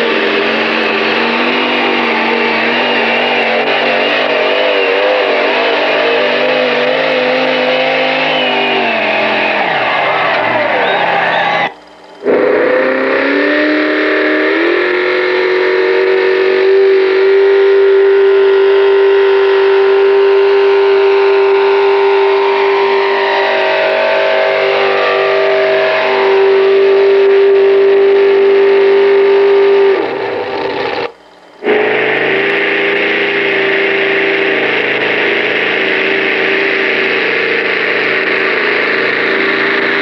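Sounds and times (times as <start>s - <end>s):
tractor engine at full throttle: 0.0s - 40.0s.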